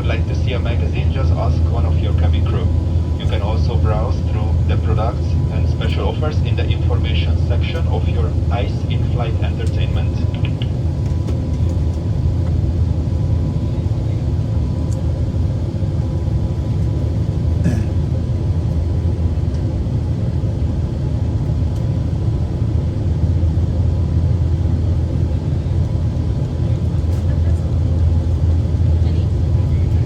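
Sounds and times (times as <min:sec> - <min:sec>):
aircraft cabin engine rumble: 0:00.0 - 0:30.0.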